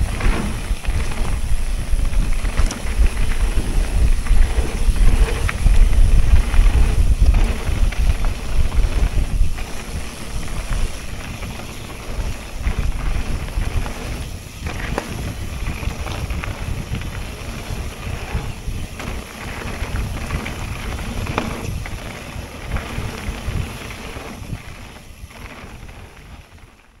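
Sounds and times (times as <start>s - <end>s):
wind buffeting microphone: 0.0s - 26.9s
bike rattling: 0.0s - 27.0s.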